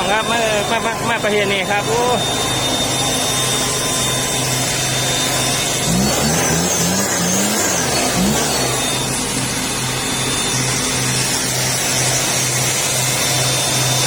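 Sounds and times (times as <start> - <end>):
engine-driven blower running: 0.0 - 14.0.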